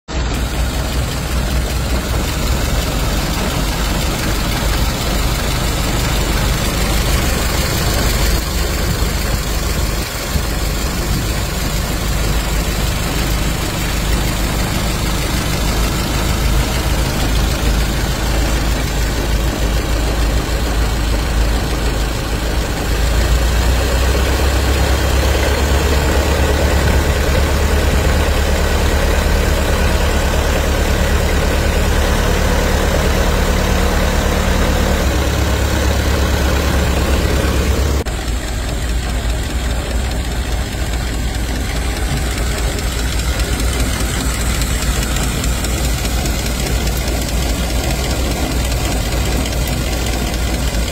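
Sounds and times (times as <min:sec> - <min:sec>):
engine running steadily: 0:00.1 - 0:50.9.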